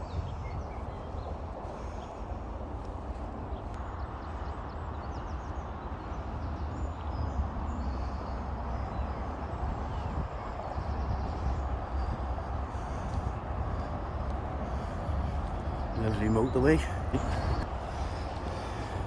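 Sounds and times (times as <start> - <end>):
motorway traffic roar: 0.0 - 19.0.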